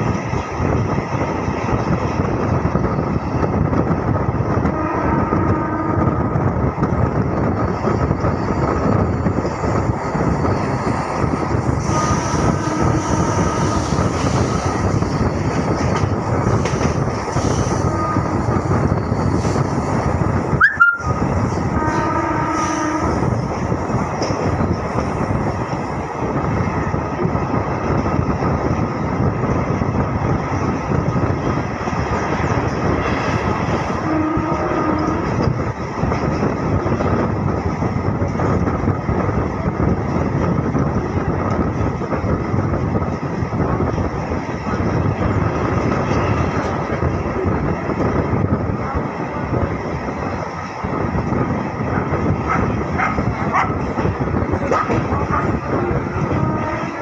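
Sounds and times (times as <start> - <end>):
rushing air: 0.0 - 57.0
train wheels rumbling on rails: 0.0 - 57.0.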